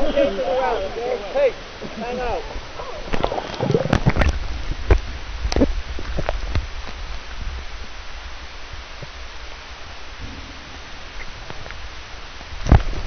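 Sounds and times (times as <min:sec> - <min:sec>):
underwater hiss and rumble: 0:00.0 - 0:13.0.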